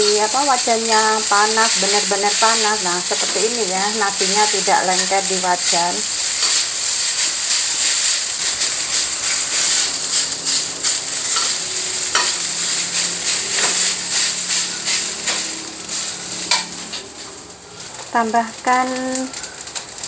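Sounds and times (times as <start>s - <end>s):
metal spatula scraping a wok: 0.0s - 17.0s
rice sizzling in hot oil: 0.0s - 20.0s.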